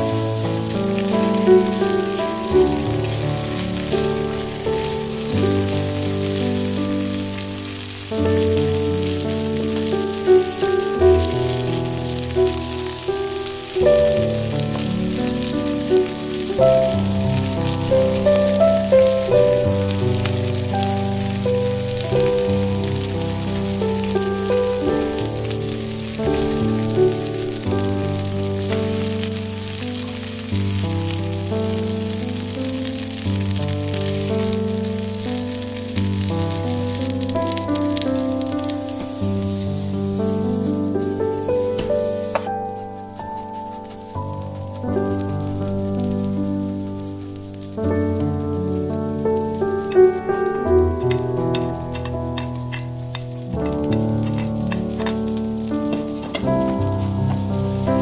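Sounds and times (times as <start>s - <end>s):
shrimp sizzling in oil: 0.0s - 58.0s.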